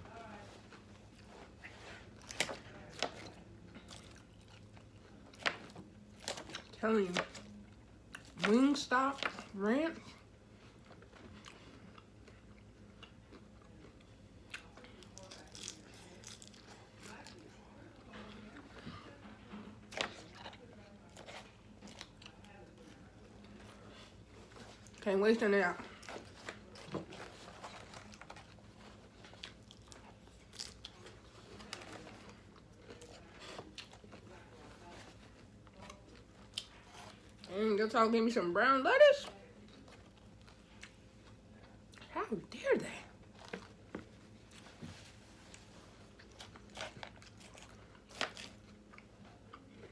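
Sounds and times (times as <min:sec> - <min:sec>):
chewing and crunching: 0:00.1 - 0:37.6, 0:39.2 - 0:42.1, 0:43.2 - 0:49.9.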